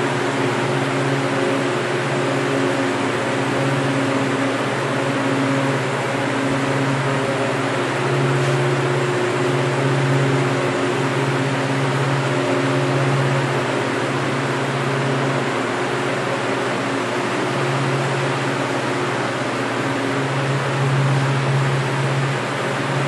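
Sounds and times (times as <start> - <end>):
refrigeration fans humming: 0.0 - 23.0.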